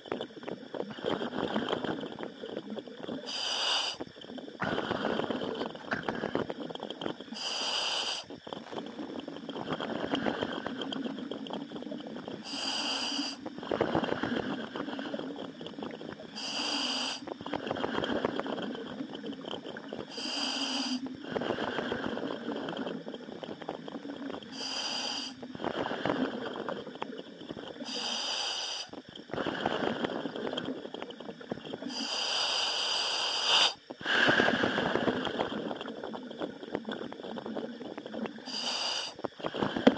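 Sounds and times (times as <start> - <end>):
diver exhaling and bubbling: 0.0 - 39.9
regulator hiss: 0.0 - 39.9.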